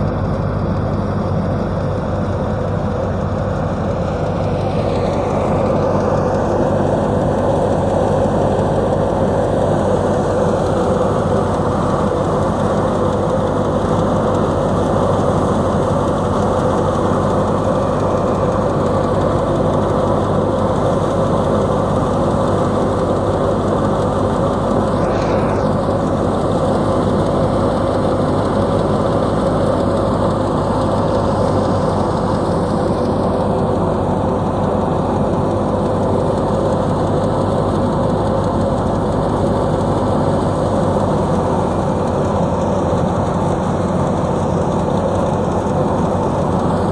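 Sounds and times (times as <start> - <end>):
wheat thresher running: 0.0 - 46.9.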